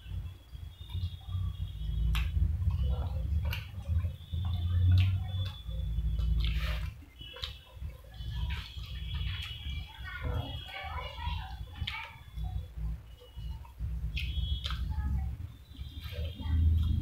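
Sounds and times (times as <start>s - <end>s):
chewing with wet mouth clicks: 0.0s - 17.0s
steady low rumble: 0.0s - 17.0s.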